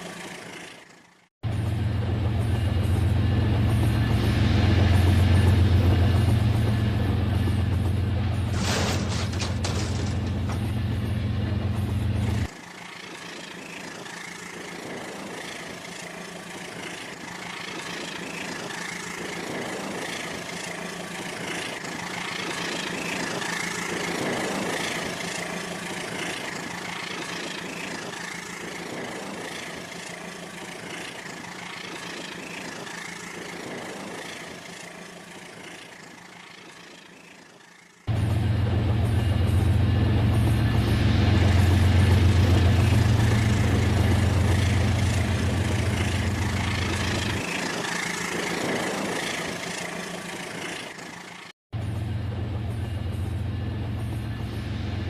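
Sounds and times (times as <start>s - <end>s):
model train running on track: 0.0s - 55.0s.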